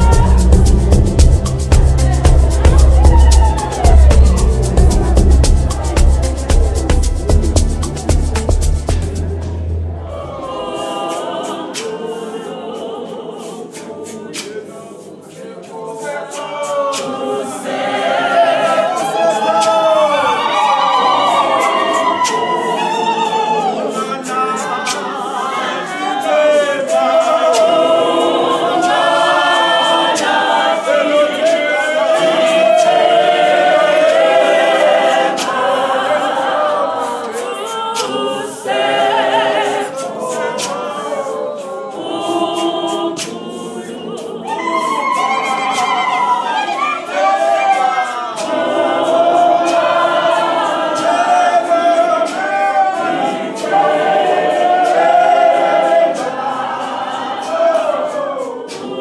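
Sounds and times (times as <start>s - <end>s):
choir singing a capella: 0.0s - 59.0s.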